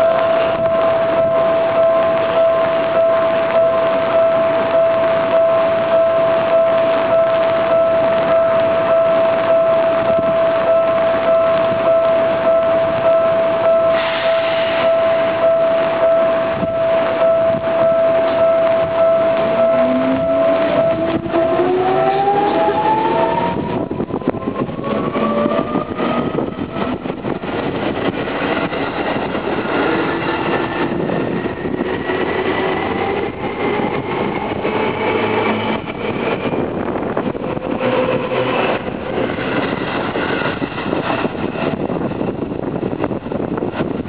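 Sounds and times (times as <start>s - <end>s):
wheels clattering on rail: 0.0s - 44.0s
electric train motors whining: 7.2s - 44.0s.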